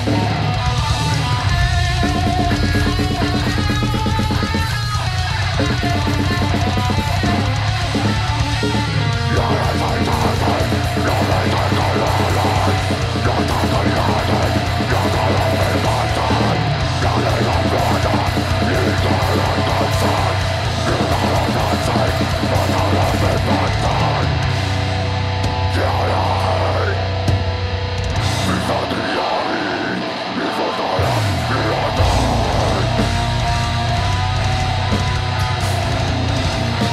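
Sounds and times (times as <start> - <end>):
drum kit: 0.0 - 29.3, 31.0 - 36.9
bass guitar: 0.0 - 36.9
distorted electric guitar: 0.0 - 36.9.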